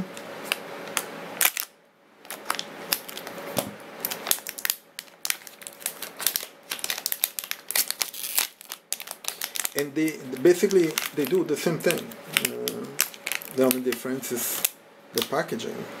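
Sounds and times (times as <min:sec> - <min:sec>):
plastic bag crinkling: 0:00.4 - 0:15.4.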